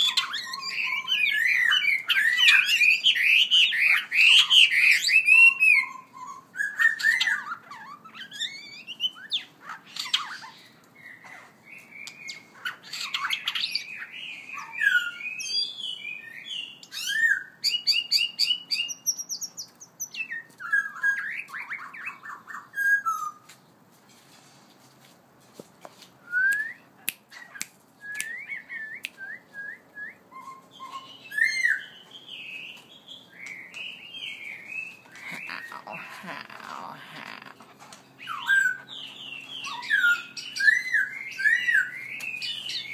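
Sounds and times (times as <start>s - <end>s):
songbird singing: 0.0s - 23.7s, 26.2s - 42.9s.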